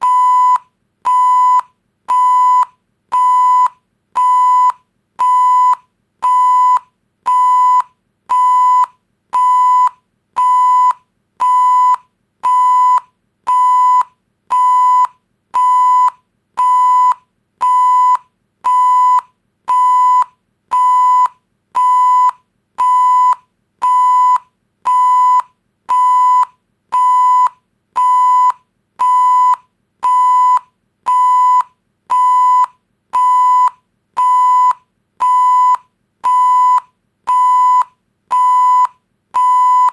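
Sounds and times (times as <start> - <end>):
short electronic beeps: 0.0 - 39.9.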